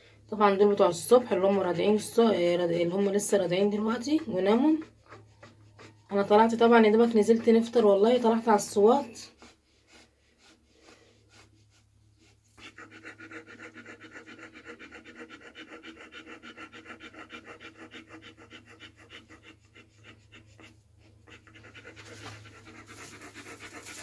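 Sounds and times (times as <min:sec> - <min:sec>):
dog panting fast: 0:00.4 - 0:24.0.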